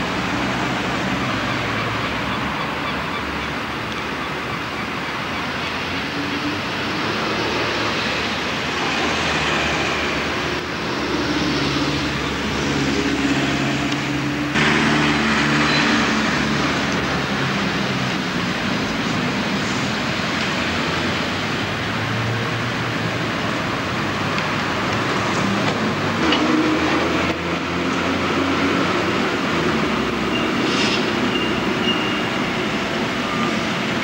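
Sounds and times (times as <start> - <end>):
street traffic: 0.0 - 34.0.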